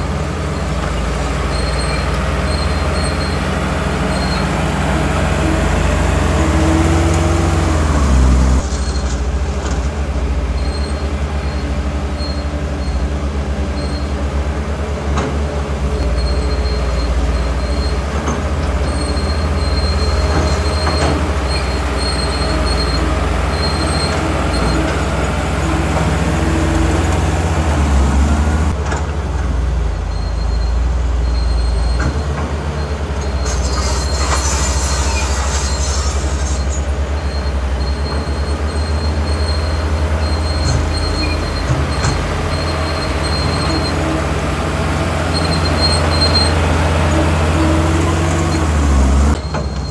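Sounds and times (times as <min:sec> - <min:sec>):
bulldozer diesel engine: 0:00.0 - 0:49.9
steel tracks squealing: 0:00.0 - 0:49.9.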